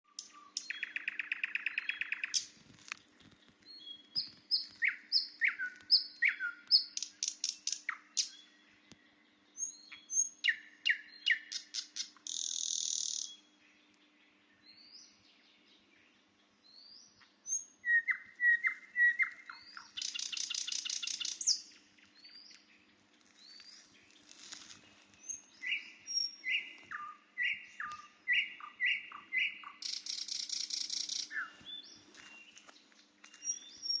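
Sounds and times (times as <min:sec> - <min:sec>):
nightingale singing: 0:00.0 - 0:34.0.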